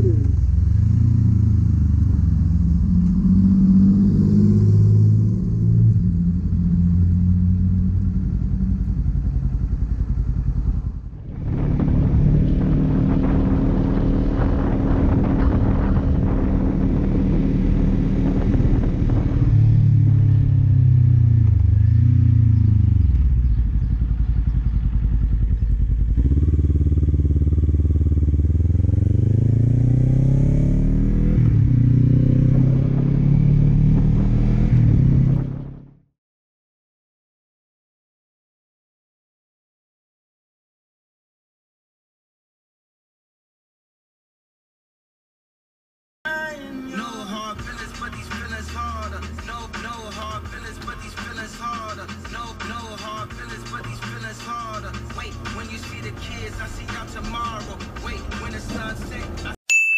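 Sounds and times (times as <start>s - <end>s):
motorcycle engine accelerating: 0.0s - 36.1s, 47.6s - 59.6s.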